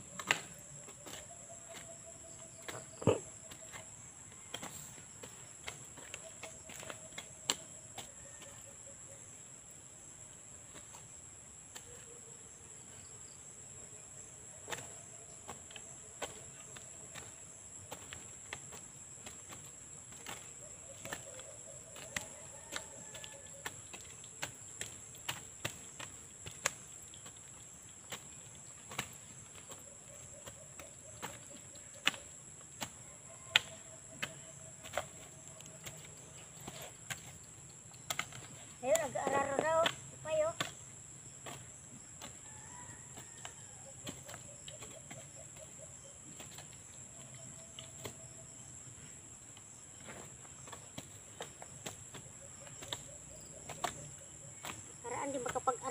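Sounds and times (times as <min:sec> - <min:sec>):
hoe blades chopping soil: 0:00.0 - 0:08.6, 0:10.6 - 0:55.9.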